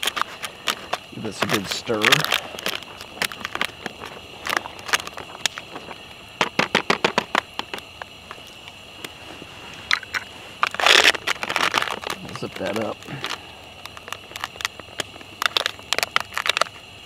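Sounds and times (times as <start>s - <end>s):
foil pouch crinkling: 0.0s - 7.9s, 9.9s - 16.8s.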